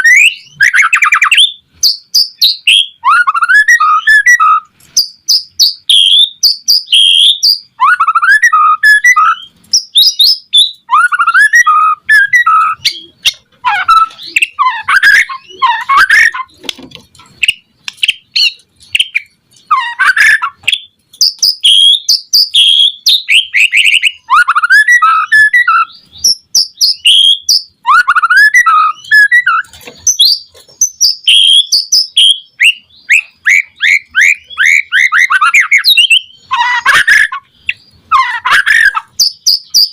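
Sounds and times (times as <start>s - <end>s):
bird singing whistles and trills: 0.0s - 16.6s, 17.4s - 39.9s.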